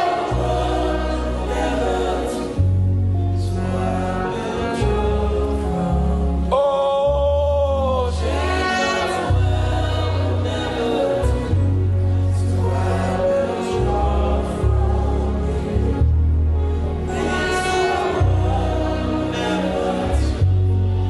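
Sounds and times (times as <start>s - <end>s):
band with bass line: 0.0s - 21.0s
choir singing: 0.0s - 21.0s.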